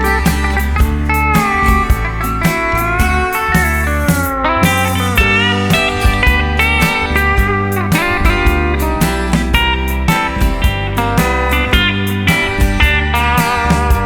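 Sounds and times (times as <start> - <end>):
bass and drum beat: 0.0 - 14.0
steel guitar sliding: 0.0 - 14.0.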